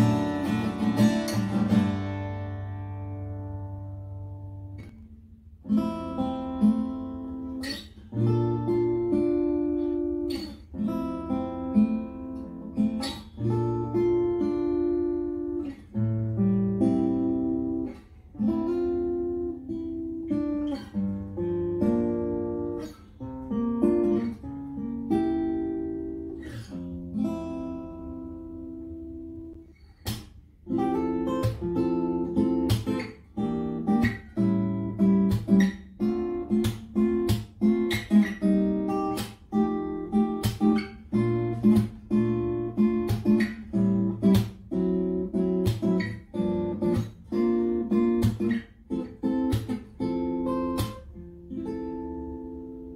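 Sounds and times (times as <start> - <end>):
acoustic guitar chords: 0.0 - 52.9.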